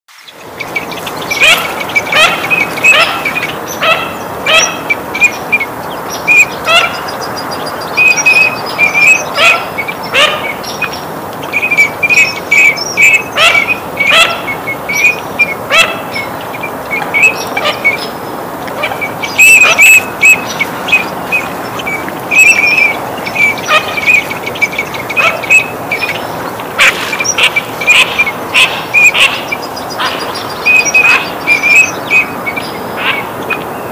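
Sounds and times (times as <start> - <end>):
teal whistled calls: 0.1 - 33.9.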